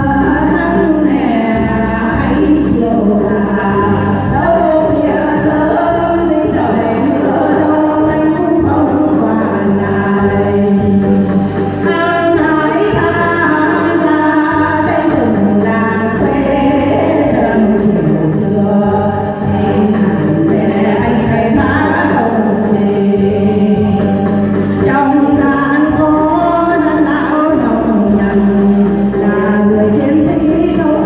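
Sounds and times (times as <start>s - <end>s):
instrumental accompaniment with bass: 0.0s - 31.0s
person singing: 0.0s - 31.0s.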